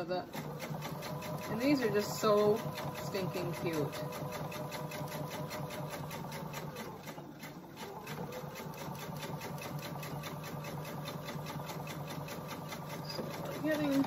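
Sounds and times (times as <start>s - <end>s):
sewing machine stitching: 0.0s - 14.0s.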